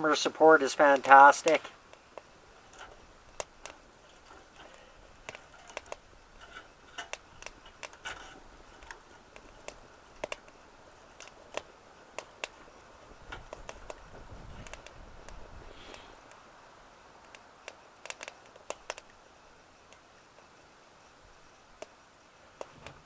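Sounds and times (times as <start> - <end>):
twig fire crackling: 0.0 - 23.0.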